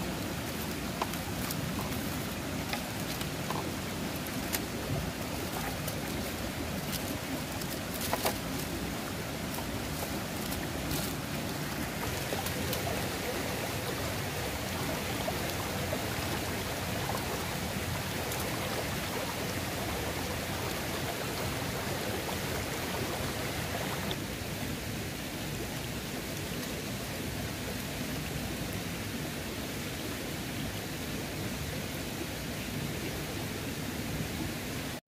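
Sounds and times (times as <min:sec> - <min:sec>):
stream flowing over rocks: 0:00.0 - 0:35.0.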